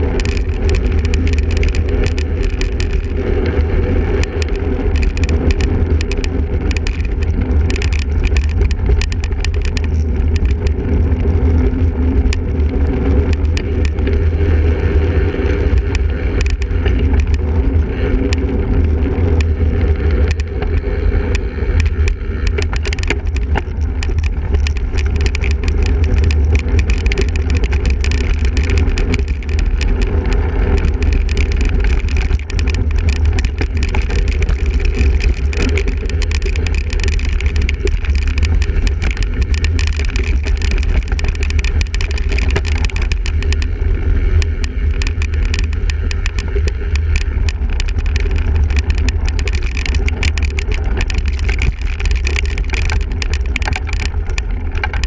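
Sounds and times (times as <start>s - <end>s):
bike rattles and knocks: 0.0s - 55.0s
wind and riding rumble: 0.0s - 55.0s.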